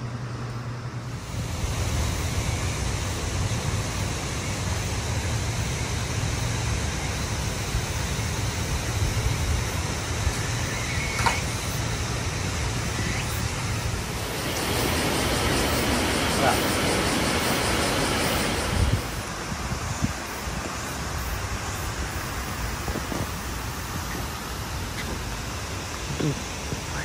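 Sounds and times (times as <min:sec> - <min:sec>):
outdoor rushing noise: 0:00.0 - 0:27.0
wind rumbling on microphone: 0:01.2 - 0:27.0.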